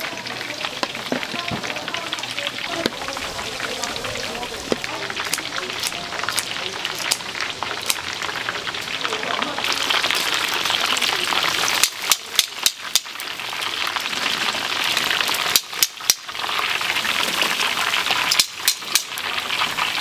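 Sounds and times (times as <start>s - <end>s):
deep-frying oil sizzling: 0.0s - 20.0s.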